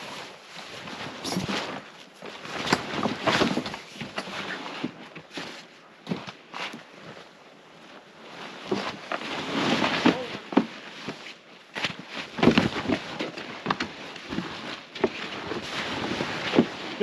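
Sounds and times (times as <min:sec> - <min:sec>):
nylon fabric rustling and flapping: 0:00.0 - 0:17.0.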